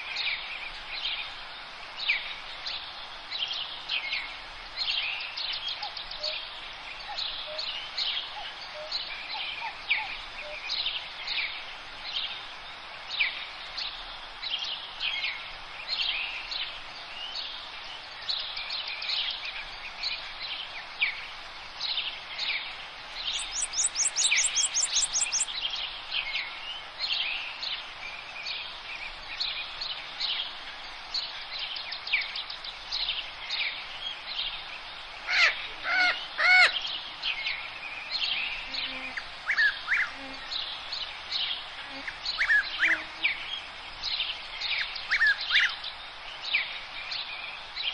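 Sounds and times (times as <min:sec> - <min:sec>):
small birds singing and chirping: 0:00.0 - 0:47.9
steady outdoor hiss: 0:00.0 - 0:47.9.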